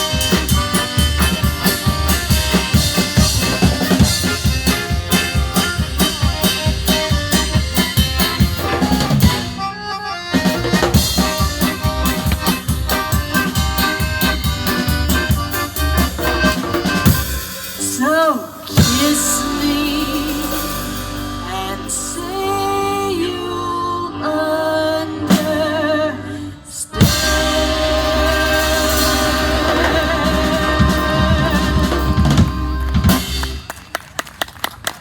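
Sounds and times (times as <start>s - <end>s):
drum kit beat: 0.0s - 21.6s, 27.0s - 33.9s
accordion: 0.0s - 34.0s
live band playing dance music: 0.0s - 34.1s.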